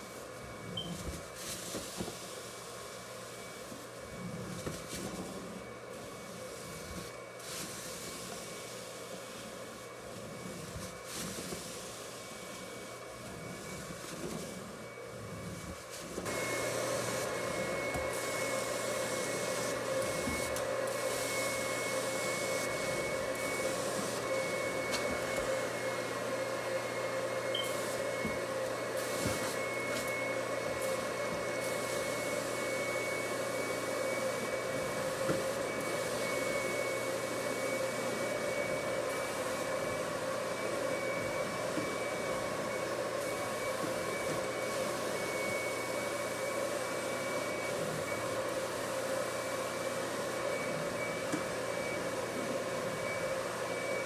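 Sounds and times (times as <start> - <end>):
carpet extraction machine suction: 0.1 - 54.0.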